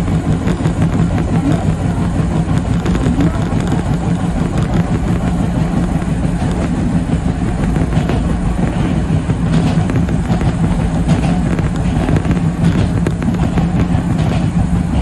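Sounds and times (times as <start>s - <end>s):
low hum: 0.0s - 15.0s
train wheels rumbling on rail: 0.0s - 15.0s.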